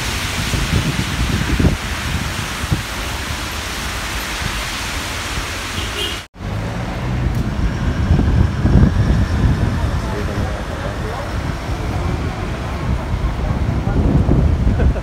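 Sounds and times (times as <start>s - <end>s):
cars passing on wet road: 0.0s - 15.0s
rain hiss: 0.0s - 15.0s
street traffic engine rumble: 0.0s - 15.0s.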